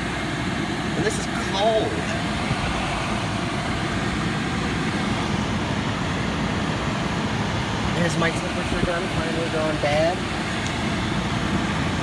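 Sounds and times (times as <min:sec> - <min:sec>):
air conditioner whirring: 0:00.0 - 0:12.0.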